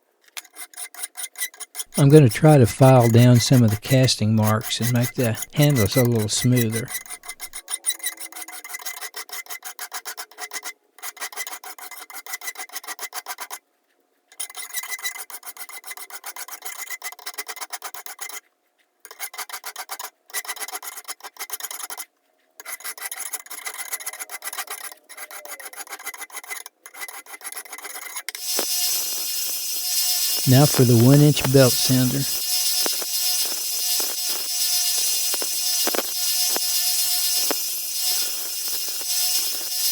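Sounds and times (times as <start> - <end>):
file scraping metal: 0.3 - 13.6, 14.4 - 18.4, 19.1 - 39.9.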